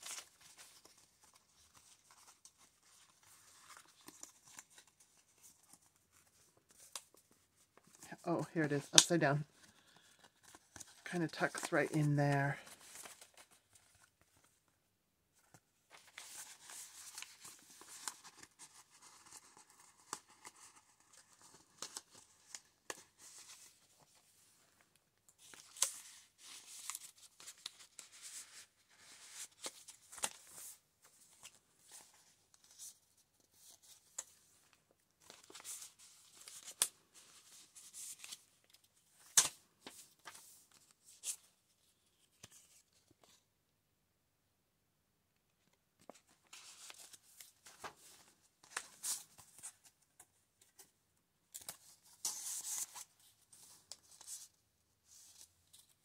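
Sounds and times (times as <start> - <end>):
paper pages rustling: 0.0 - 14.6, 15.4 - 43.5, 45.6 - 50.9, 51.5 - 56.0.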